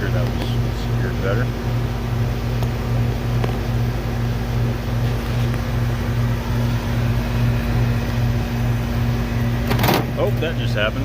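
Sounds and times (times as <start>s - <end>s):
blower fan humming: 0.0s - 11.0s.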